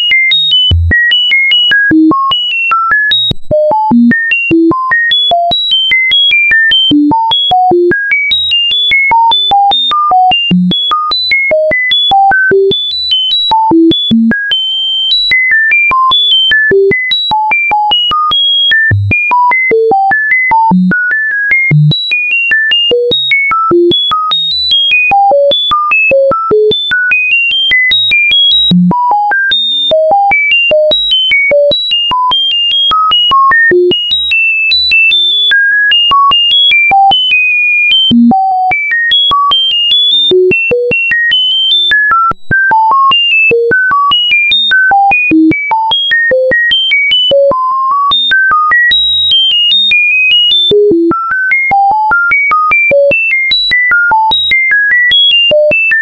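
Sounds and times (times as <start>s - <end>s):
sine-tone beeps at random pitches: 0.0s - 56.0s.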